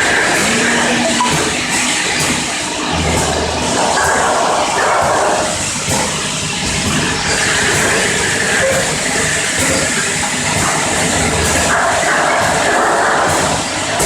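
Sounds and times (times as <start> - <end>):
machine clatter: 0.0 - 14.0.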